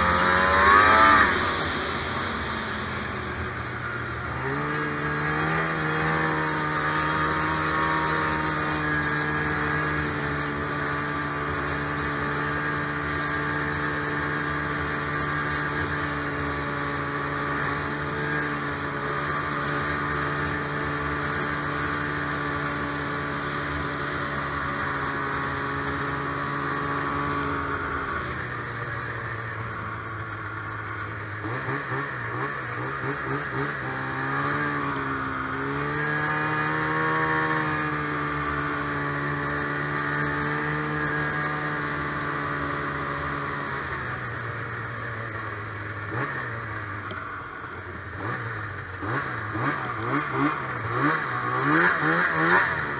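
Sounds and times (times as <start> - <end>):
snowmobile two-stroke engine running: 0.0 - 52.9.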